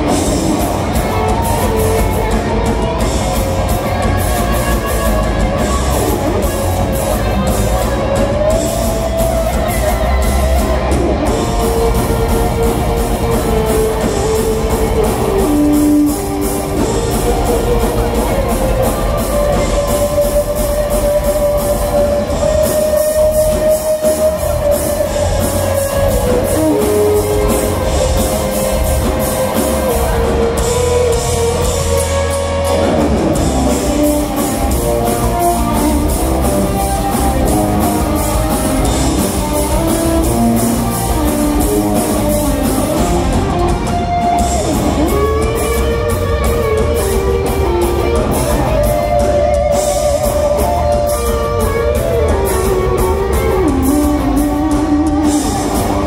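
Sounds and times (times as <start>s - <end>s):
bass guitar: 0.0s - 56.0s
drums: 0.0s - 56.0s
electric lead guitar melody: 0.0s - 56.0s.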